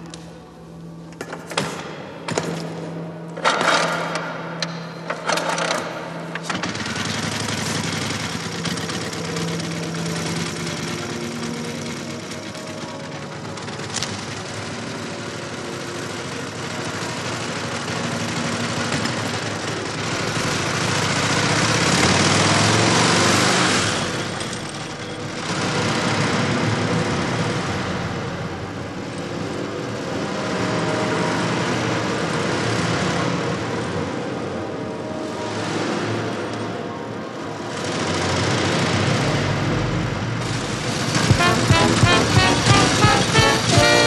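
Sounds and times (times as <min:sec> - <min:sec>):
motorcycle engine running: 0:02.3 - 0:34.4, 0:37.7 - 0:44.0.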